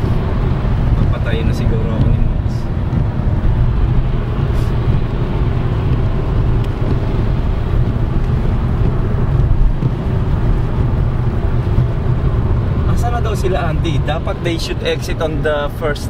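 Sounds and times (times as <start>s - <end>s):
car interior engine and tyre rumble: 0.0s - 16.0s.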